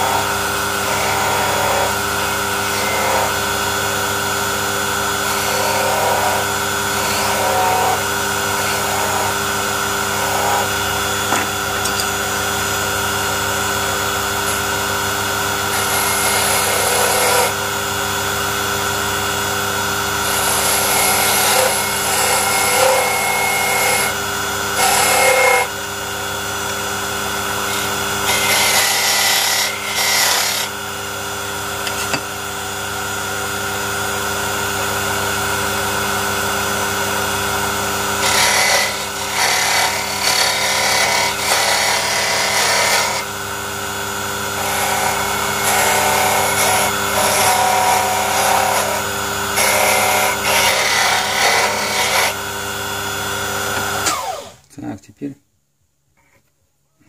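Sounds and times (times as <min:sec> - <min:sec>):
rotary tool sanding wood: 0:00.0 - 0:17.7, 0:20.0 - 0:31.0, 0:35.9 - 0:54.5.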